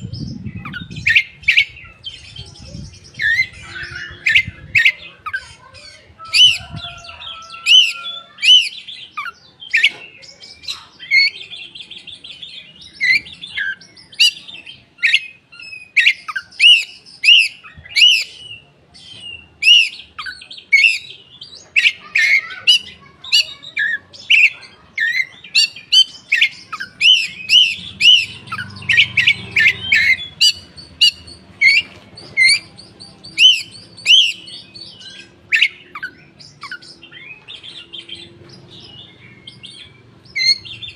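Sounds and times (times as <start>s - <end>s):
bird trill: 0.0s - 40.9s
birds chirping: 0.0s - 40.9s.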